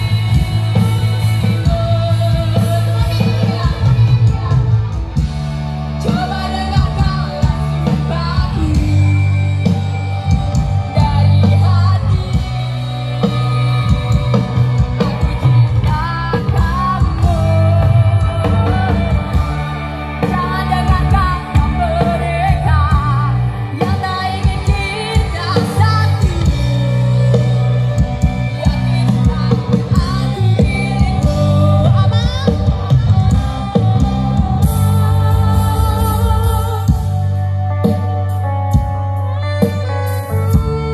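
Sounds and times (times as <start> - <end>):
band music with singer: 0.0 - 40.9.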